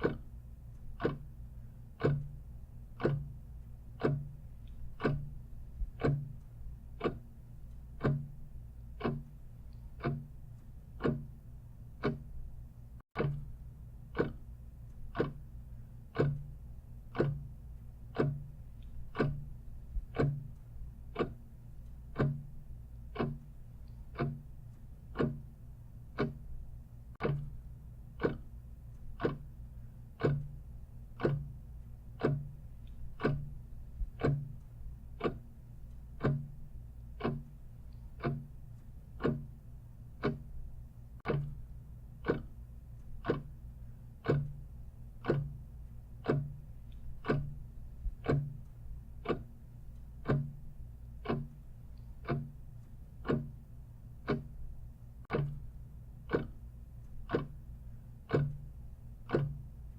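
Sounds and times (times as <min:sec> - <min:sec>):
clock ticking: 0:00.0 - 0:59.9
low steady hum: 0:00.0 - 0:59.9.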